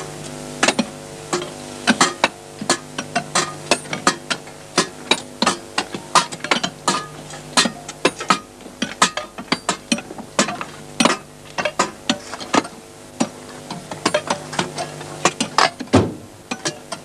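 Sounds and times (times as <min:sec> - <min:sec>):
low steady hum: 0:00.0 - 0:17.0
hand tools striking rock: 0:00.6 - 0:17.0.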